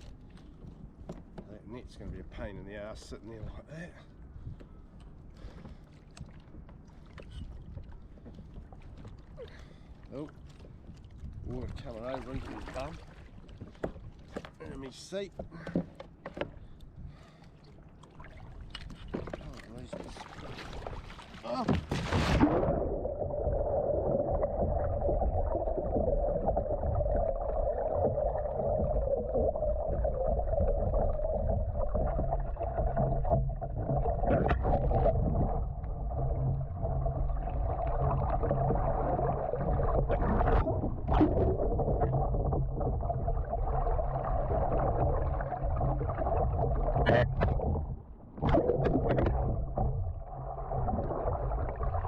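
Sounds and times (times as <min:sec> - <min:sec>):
water sloshing and gurgling: 0:00.0 - 0:52.0
knocks and splashes: 0:05.6 - 0:14.7, 0:18.0 - 0:52.0.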